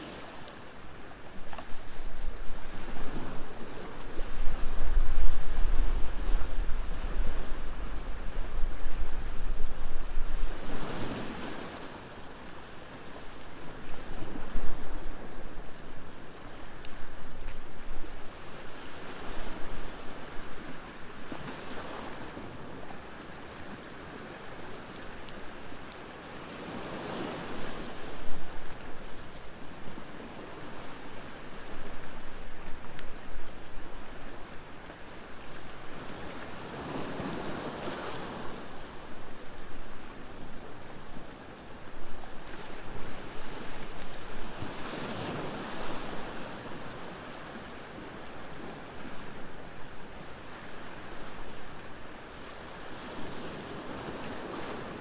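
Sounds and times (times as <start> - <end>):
ocean surf: 0.0 - 55.0.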